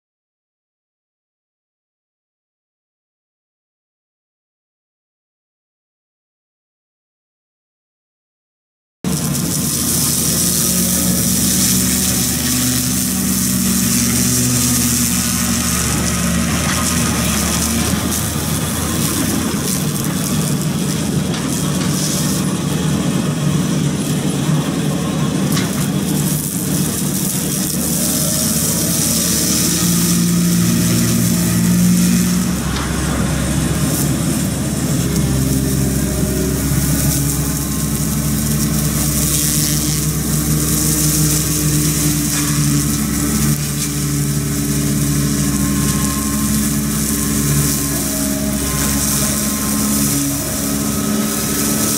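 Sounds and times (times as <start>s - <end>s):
excavator engine running: 9.1s - 51.9s
rotary cutter hiss: 9.1s - 51.9s.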